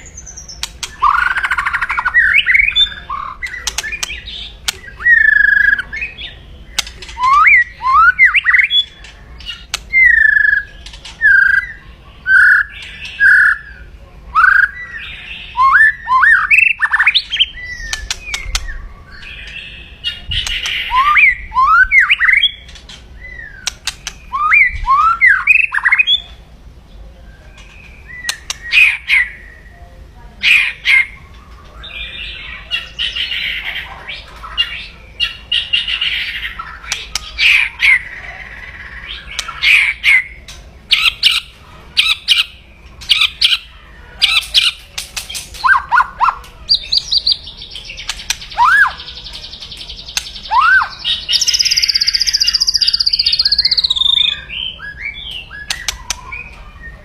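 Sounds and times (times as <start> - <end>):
bird harsh crackling call: 0.0 - 26.2, 30.4 - 54.6.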